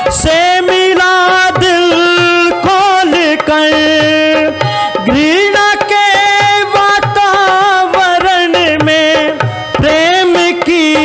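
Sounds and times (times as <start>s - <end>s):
tabla beats: 0.0s - 11.0s.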